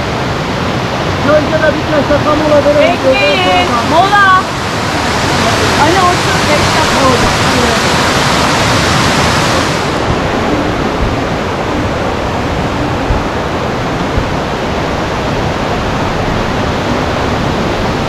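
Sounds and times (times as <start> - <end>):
rushing water roar: 0.0 - 18.0.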